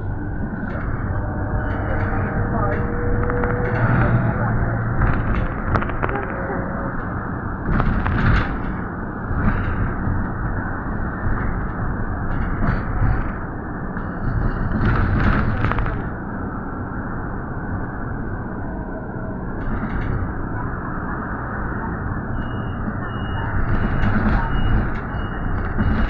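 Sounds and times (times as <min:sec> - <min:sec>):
road traffic rumble: 0:00.0 - 0:26.0
vehicles passing: 0:00.0 - 0:26.0.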